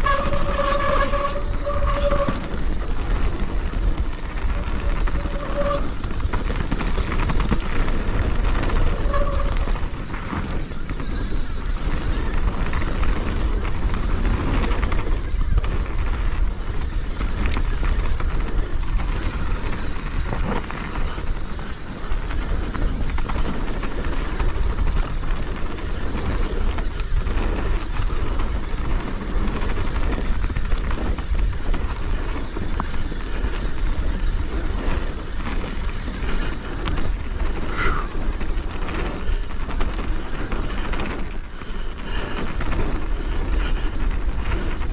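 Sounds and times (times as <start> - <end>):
bike rattles and knocks: 0.0 - 44.9
bike tyre noise: 0.0 - 44.9
wind buffeting microphone: 0.0 - 44.9.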